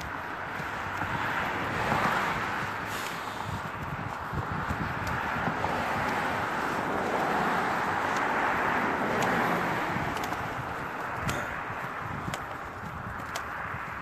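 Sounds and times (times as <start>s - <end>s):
road traffic going by: 0.0s - 14.0s
wind buffeting microphone: 0.0s - 14.0s.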